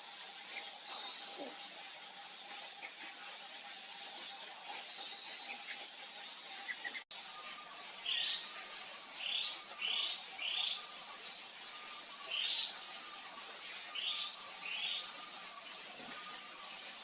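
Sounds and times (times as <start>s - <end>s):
forest background hiss: 0.0s - 17.0s.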